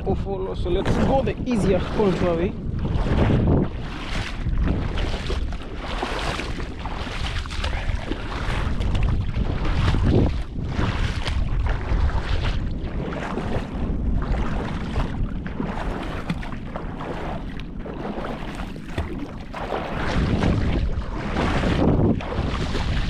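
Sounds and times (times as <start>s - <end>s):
legs wading through water: 0.0s - 23.0s
wind rumbling on microphone: 0.0s - 23.0s.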